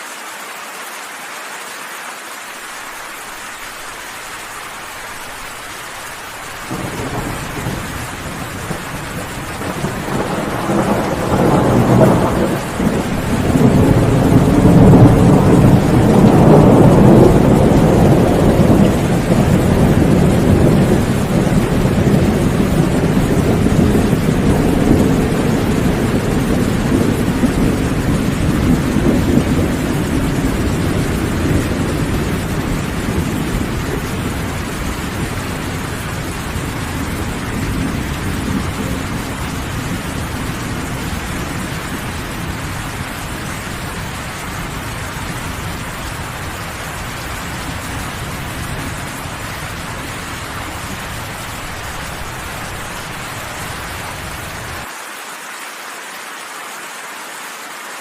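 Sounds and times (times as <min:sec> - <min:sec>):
steady rain: 0:00.0 - 0:58.0
rolling thunder: 0:06.4 - 0:54.8.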